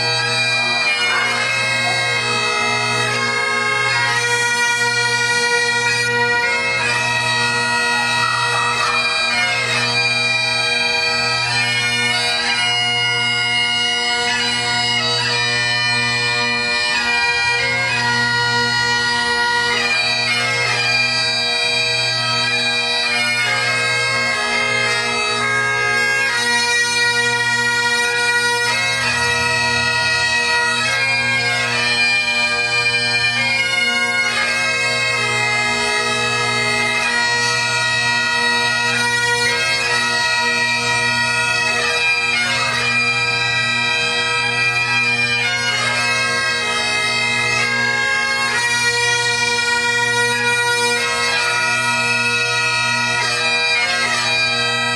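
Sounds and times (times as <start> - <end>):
bagpipes playing a tune: 0.0 - 54.9.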